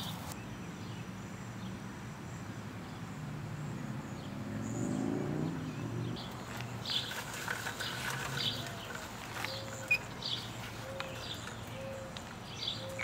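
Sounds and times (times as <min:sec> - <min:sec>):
passing vehicle engine hum: 0:02.6 - 0:13.0.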